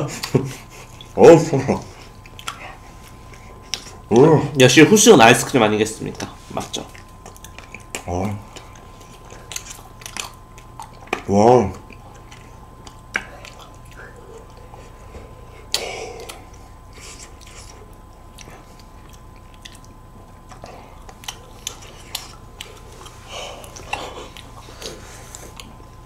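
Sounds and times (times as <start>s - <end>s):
mouth sounds of eating: 0.0s - 26.0s.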